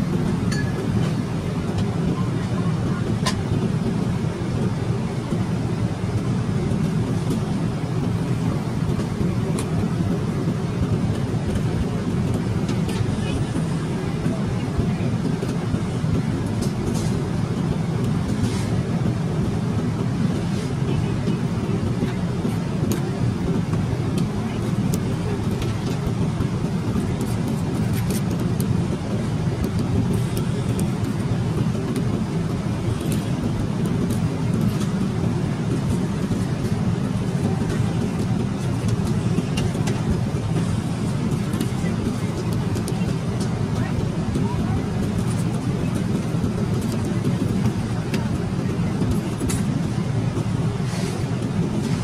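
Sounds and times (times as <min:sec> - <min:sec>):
airliner cabin noise: 0:00.0 - 0:52.0.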